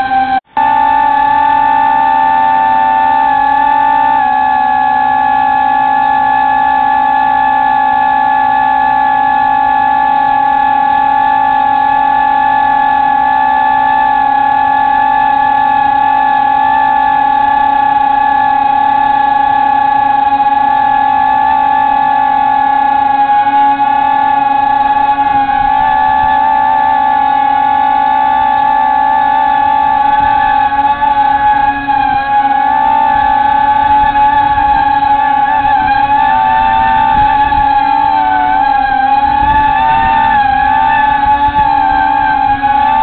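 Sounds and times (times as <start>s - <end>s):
drone motors whining: 0.0s - 43.0s.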